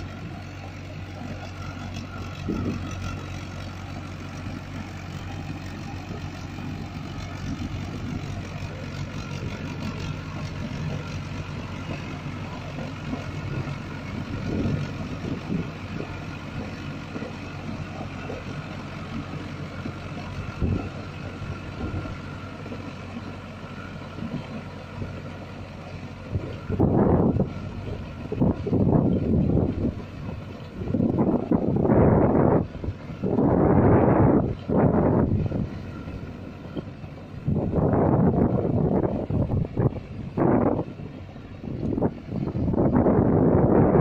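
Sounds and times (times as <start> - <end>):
diesel tractor engine running: 0.0 - 44.0.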